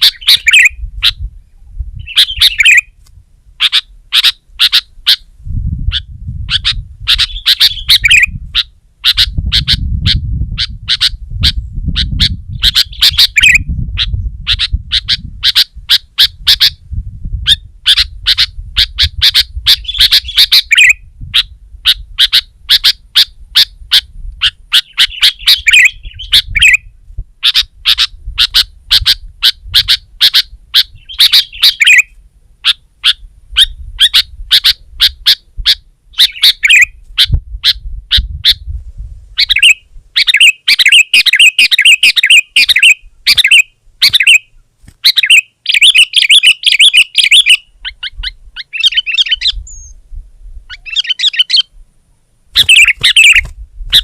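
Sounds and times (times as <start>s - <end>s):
bird chattering song: 0.0s - 3.0s, 3.6s - 5.2s, 5.9s - 16.8s, 17.4s - 38.6s, 39.4s - 50.0s, 50.7s - 51.7s, 52.5s - 54.0s.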